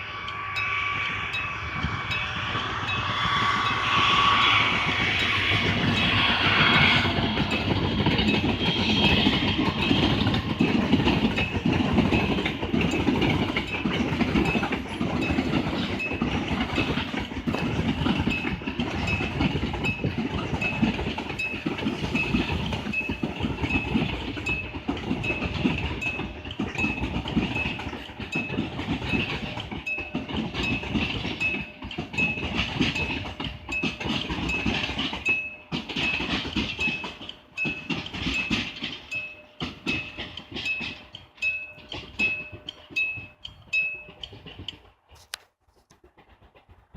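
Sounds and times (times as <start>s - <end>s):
crossing warning bell: 0.0s - 45.4s
freight wagons rumbling: 0.0s - 46.9s
wheels clacking over rails: 0.0s - 46.9s.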